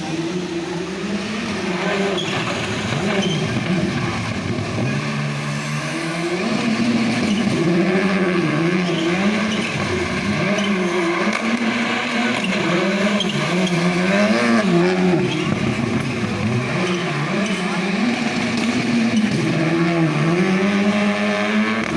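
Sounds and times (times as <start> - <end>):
car engine revving hard: 0.0 - 21.9.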